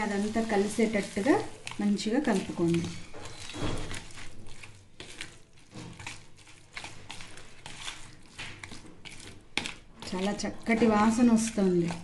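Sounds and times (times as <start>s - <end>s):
spoon scraping plastic bowl: 0.0s - 12.0s.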